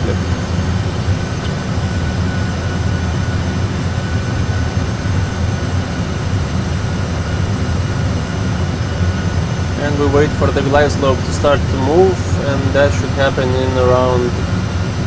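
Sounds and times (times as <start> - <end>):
aircraft cockpit rumble: 0.0 - 15.0
faint high whine: 0.0 - 15.0.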